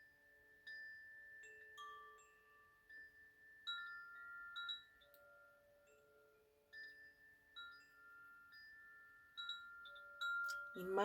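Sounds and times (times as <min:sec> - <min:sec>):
wind chimes ringing: 0:00.0 - 0:11.0.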